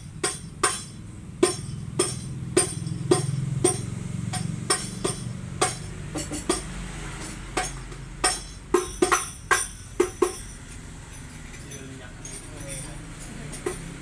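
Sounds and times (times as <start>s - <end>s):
frame drums struck by hand: 0.0s - 10.7s, 13.4s - 14.0s.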